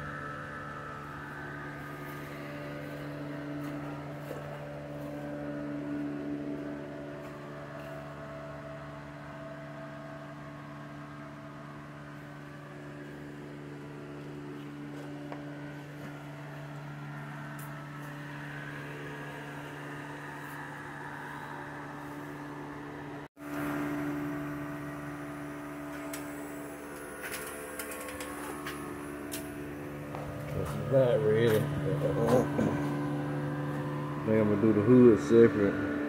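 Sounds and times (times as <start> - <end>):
machine hum: 0.0 - 36.0.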